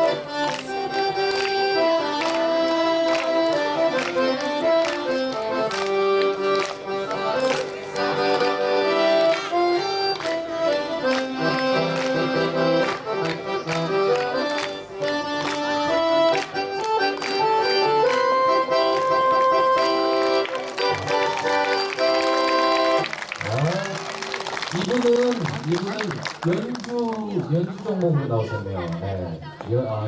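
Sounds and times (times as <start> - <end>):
accordion playing a melody: 0.0 - 26.3.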